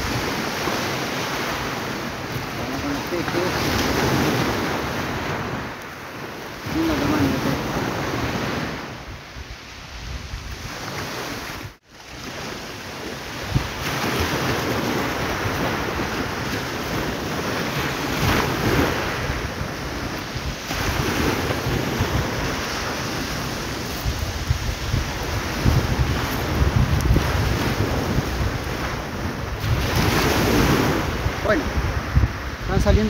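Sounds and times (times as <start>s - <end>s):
surf breaking on beach: 0.0s - 33.0s
wind blowing on microphone: 0.0s - 33.0s.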